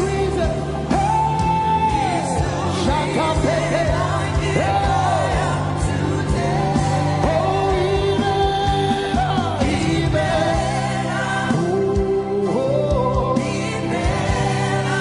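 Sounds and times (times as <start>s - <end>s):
band with bass and drums: 0.0s - 15.0s.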